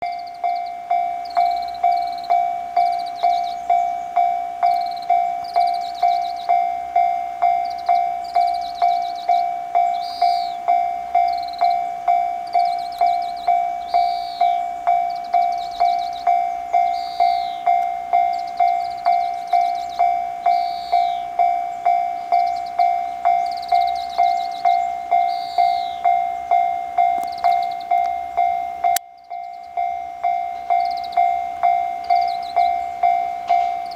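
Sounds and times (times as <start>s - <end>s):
level crossing bell ringing: 0.0s - 33.9s
small birds chirping: 0.0s - 33.9s.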